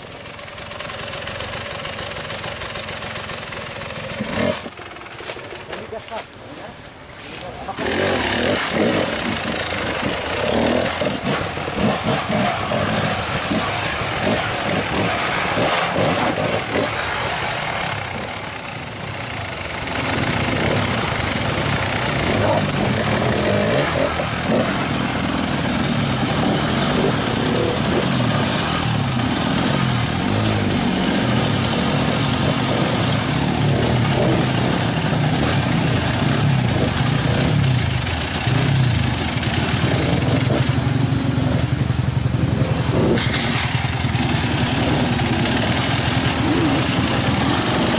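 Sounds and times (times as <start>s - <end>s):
motorcycle engines revving: 0.0s - 47.9s.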